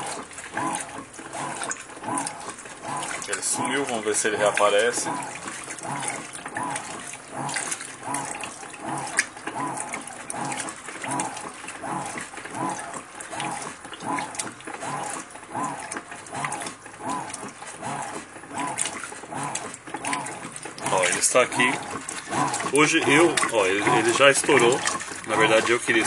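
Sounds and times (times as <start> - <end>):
washing machine agitator whirring: 0.0 - 26.0
water sloshing: 0.0 - 26.0.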